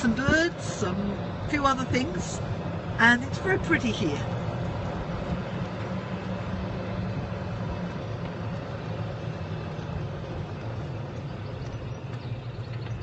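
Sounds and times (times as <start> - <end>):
golf cart running: 0.0 - 13.0.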